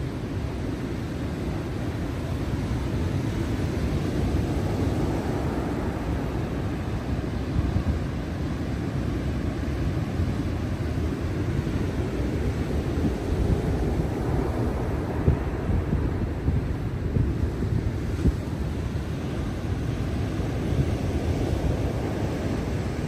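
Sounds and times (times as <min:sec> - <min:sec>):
ocean surf crashing: 0:00.0 - 0:23.0
wind on microphone: 0:00.0 - 0:23.0.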